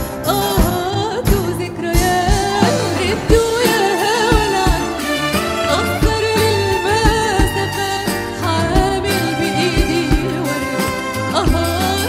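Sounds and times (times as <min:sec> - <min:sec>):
drums keeping steady beat: 0:00.0 - 0:12.0
live band playing: 0:00.0 - 0:12.0
woman singing: 0:00.0 - 0:12.0.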